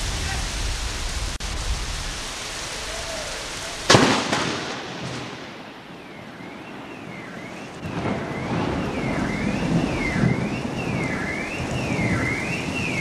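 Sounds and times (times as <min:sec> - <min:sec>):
rain hissing: 0:00.0 - 0:13.0
thunder clap: 0:00.0 - 0:13.0.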